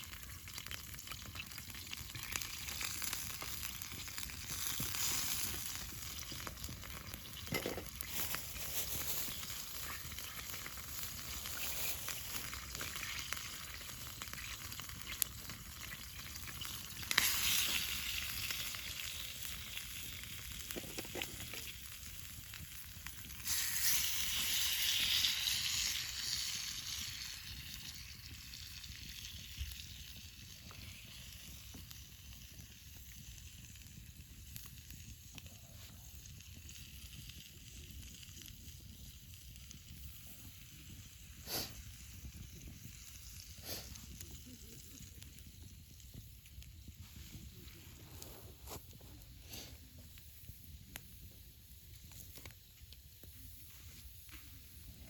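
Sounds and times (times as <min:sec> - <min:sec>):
food sizzling over a campfire: 0:00.0 - 0:55.0.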